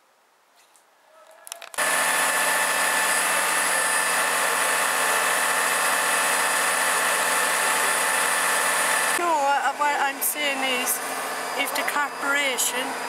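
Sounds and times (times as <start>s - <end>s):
fire engine running: 1.6s - 13.0s.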